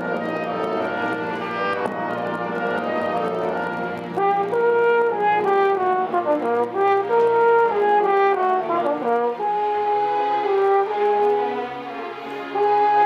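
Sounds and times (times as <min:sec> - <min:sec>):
brass melody in long notes: 0:00.0 - 0:13.0
orchestra playing: 0:00.0 - 0:13.0.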